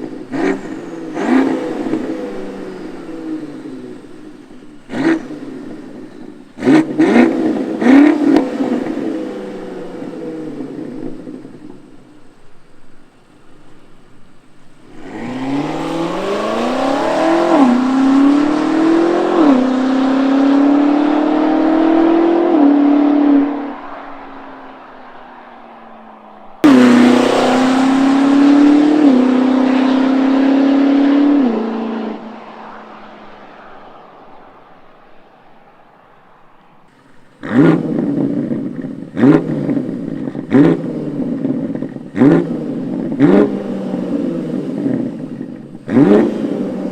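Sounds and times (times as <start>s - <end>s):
car engine accelerating hard: 0.0s - 46.9s.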